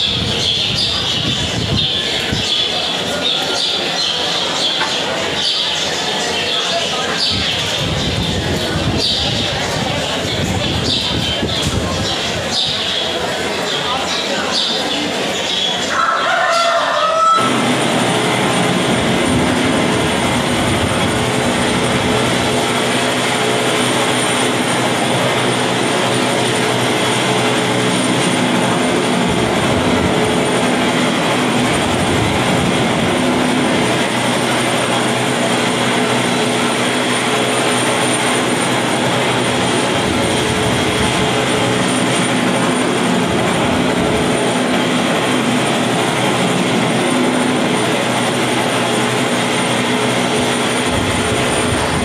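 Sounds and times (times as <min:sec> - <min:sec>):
aircraft engine roar: 0:00.0 - 0:52.0.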